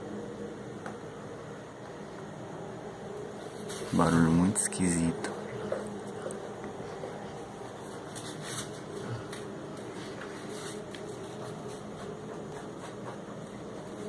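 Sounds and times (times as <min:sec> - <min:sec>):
low drone with held tones: 0:00.0 - 0:12.6.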